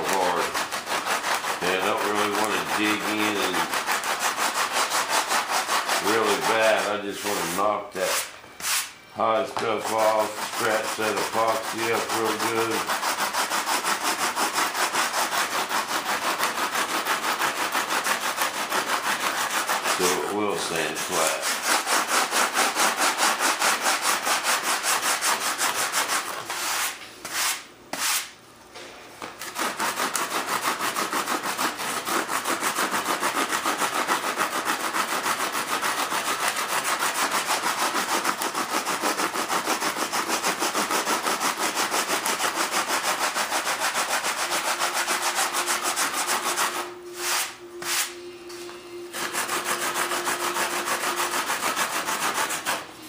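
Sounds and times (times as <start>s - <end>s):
sandpaper scratching strokes: 0.0s - 28.4s, 29.4s - 48.2s, 49.1s - 52.9s.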